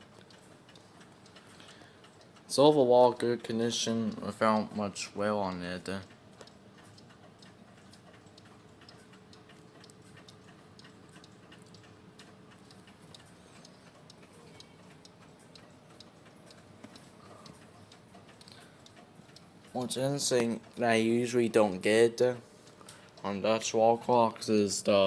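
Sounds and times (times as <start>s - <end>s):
clock ticking: 0.0s - 25.0s.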